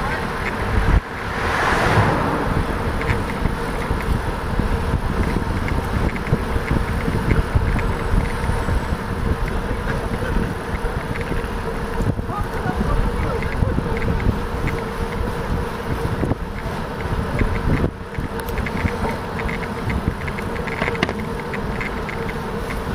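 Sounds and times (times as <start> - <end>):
wind on microphone: 0.0 - 21.4
bicycle rolling on pavement: 0.0 - 22.9.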